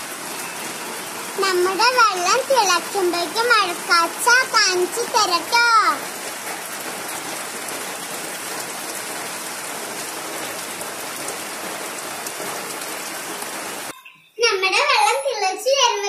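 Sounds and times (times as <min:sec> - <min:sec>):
steady rain on foliage and water: 0:00.0 - 0:13.9.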